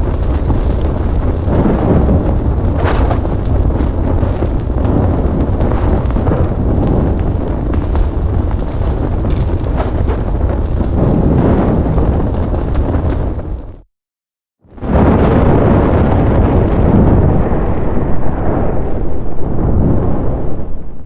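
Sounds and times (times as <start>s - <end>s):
flames crackling: 0.0s - 13.8s, 14.7s - 21.0s
large fire burning: 0.0s - 13.9s, 14.6s - 21.0s.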